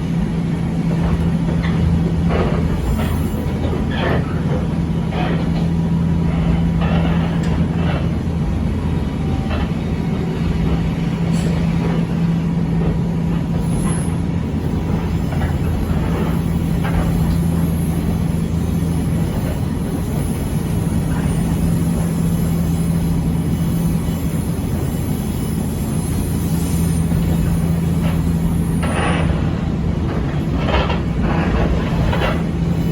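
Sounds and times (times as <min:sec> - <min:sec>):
electric railcar humming: 0:00.0 - 0:32.9.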